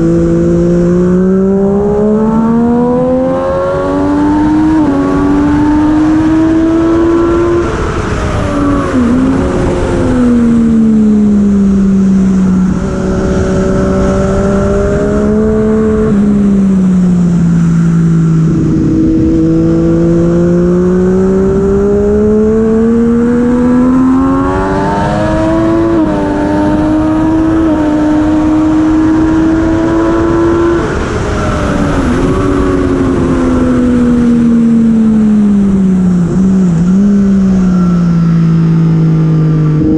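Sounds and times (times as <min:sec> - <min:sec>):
motorcycle engine racing: 0:00.0 - 0:39.9.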